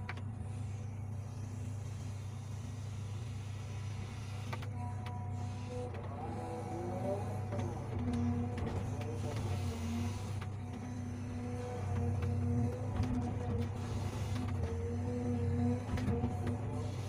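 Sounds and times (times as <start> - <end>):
excavator engine hum: 0.0 - 17.0
hydraulic whine: 0.0 - 17.0.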